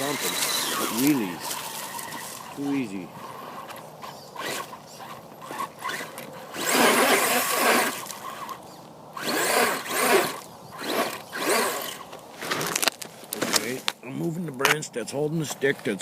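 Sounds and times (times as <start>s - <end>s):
toy truck electric motor whirring: 0.0s - 13.0s
tyres scrabbling over rough ground: 0.0s - 16.0s.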